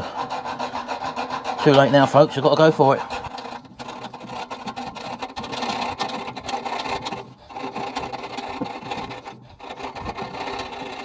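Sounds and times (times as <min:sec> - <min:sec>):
hacksaw cutting metal pipe: 0:00.0 - 0:11.0.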